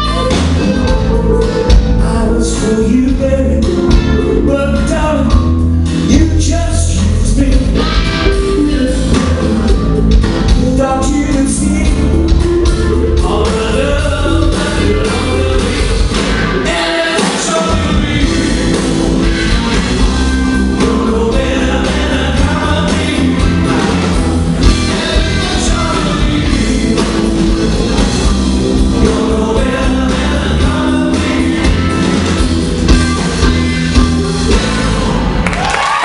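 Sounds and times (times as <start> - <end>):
live rock band playing: 0.0 - 36.0
man singing: 1.7 - 33.0.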